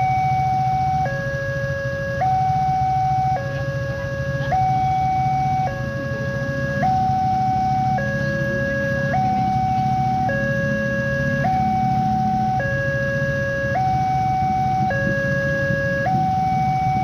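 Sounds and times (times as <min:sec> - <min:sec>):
level crossing two-tone alarm: 0:00.0 - 0:17.0.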